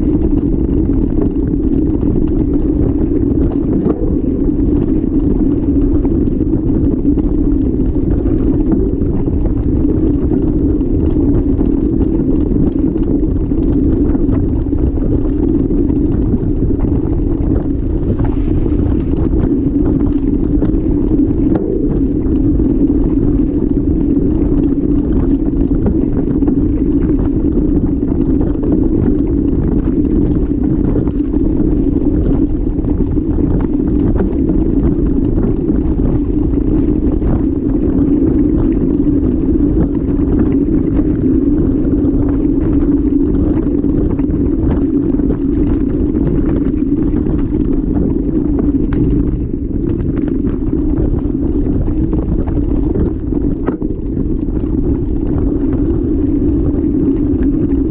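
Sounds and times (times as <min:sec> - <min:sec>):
bike rolling on dirt track: 0:00.0 - 0:57.9
wind rumble: 0:00.0 - 0:57.9.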